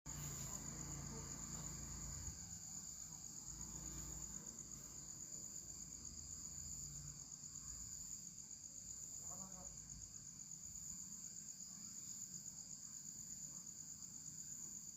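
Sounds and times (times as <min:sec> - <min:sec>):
insects chirring: 0:00.1 - 0:14.9.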